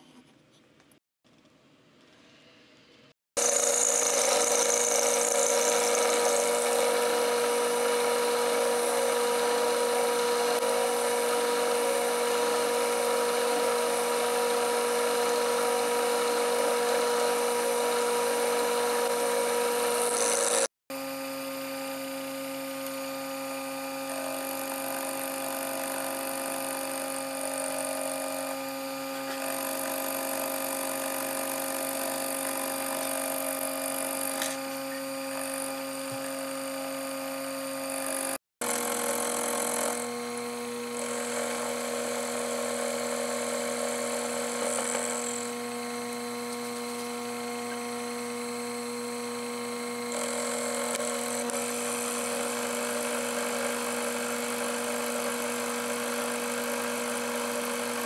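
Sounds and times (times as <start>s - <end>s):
milling machine spindle whine: 3.4s - 58.0s.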